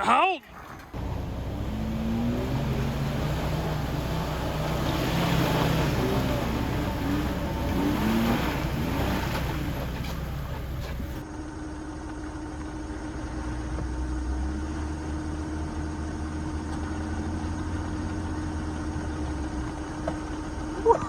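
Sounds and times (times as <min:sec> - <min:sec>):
vehicle engine idling: 0:00.6 - 0:21.0.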